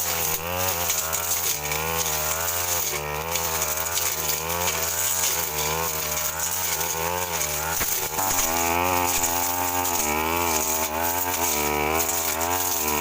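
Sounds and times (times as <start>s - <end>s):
blade cutting through scrub: 0.0s - 13.0s
brush cutter engine running: 0.0s - 13.0s.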